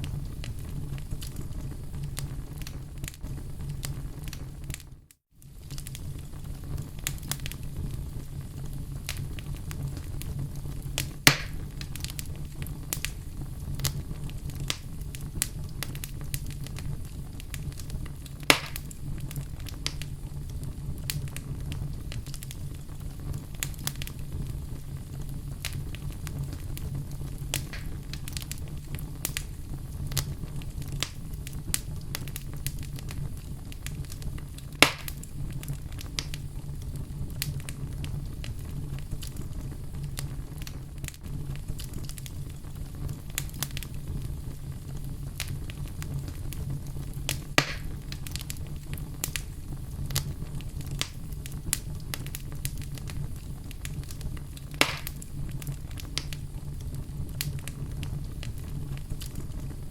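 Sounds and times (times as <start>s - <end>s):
fire crackling: 0.0s - 59.9s
loud sharp pops of fire: 0.0s - 59.9s.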